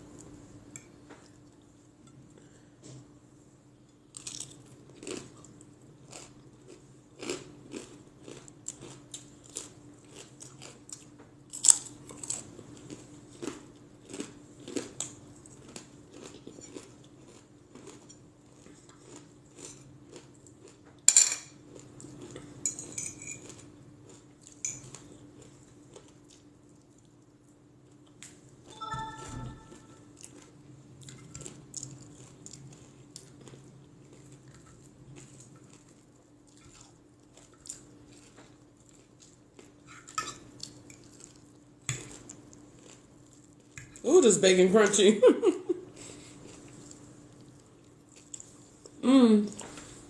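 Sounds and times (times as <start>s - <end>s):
chewing and crunching: 3.9s - 28.7s, 30.1s - 44.0s, 45.9s - 50.0s.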